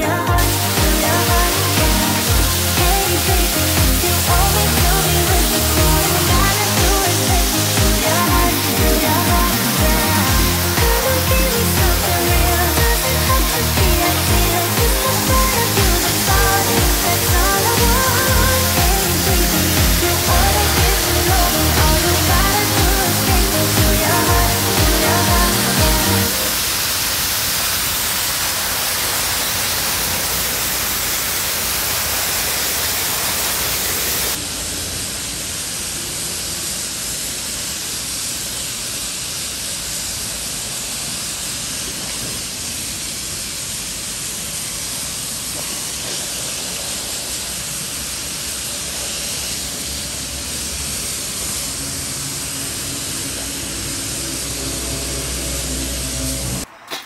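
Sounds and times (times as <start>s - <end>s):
pressure washer spray hissing: 0.0s - 57.0s.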